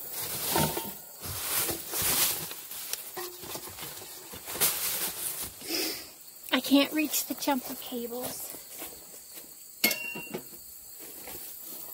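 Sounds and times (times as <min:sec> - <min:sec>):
items rustling and knocking: 0:00.0 - 0:05.7, 0:07.1 - 0:11.9.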